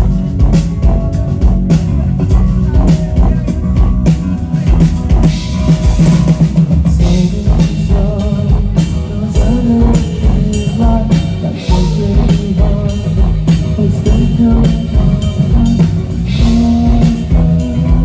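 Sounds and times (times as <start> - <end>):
live rock band: 0.0 - 18.0.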